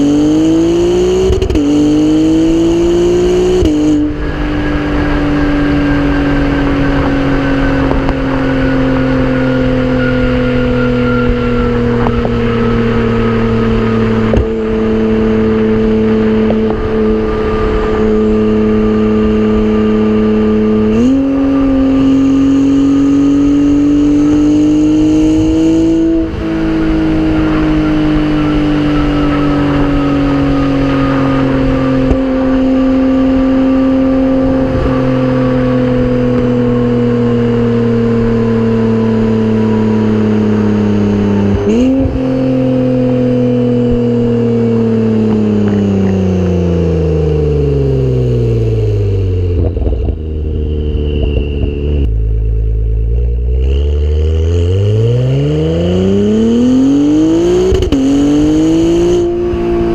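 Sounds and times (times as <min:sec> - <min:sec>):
car exhaust engine note: 0:00.0 - 0:59.9.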